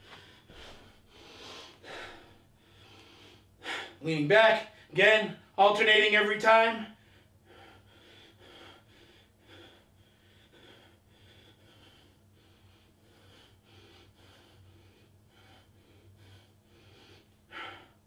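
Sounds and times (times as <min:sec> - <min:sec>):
man breathing heavily: 0:00.0 - 0:05.0, 0:06.9 - 0:18.0
steady low hum: 0:00.0 - 0:18.0.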